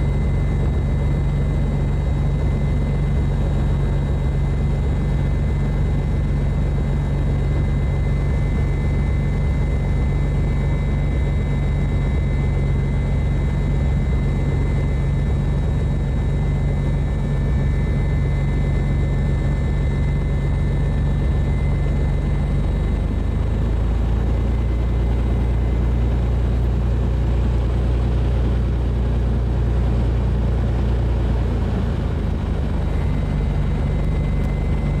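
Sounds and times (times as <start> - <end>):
propeller plane engine in cockpit: 0.0 - 35.0.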